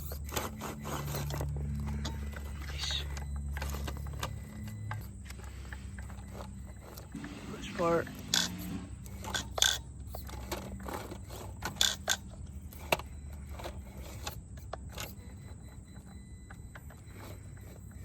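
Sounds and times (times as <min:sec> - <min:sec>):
faint motor hum: 0:00.0 - 0:18.0.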